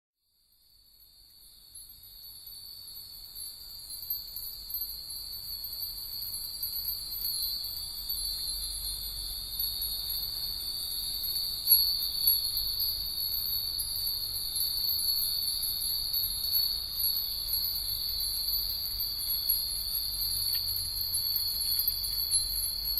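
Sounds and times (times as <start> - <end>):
wind bells tinkling: 0.4 - 22.9.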